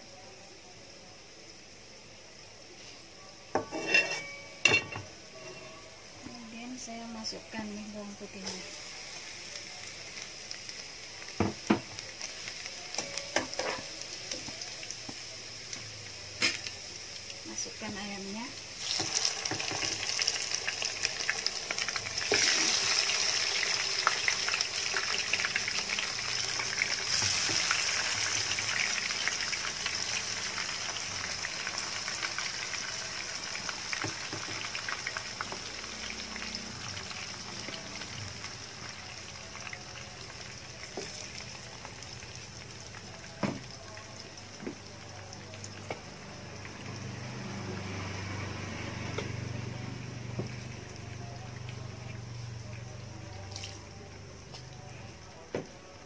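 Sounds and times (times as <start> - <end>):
chicken sizzling in hot oil: 0.8 - 56.0.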